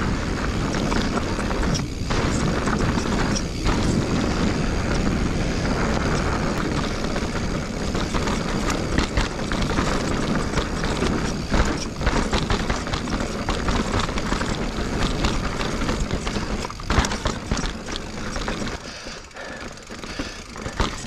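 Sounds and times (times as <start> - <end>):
bike rattling over rock: 0.0 - 21.0
tyres and wind rumbling: 0.0 - 21.0.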